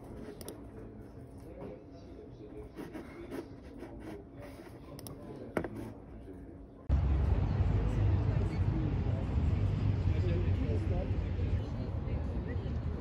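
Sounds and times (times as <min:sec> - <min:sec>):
low room murmur: 0:00.0 - 0:13.0.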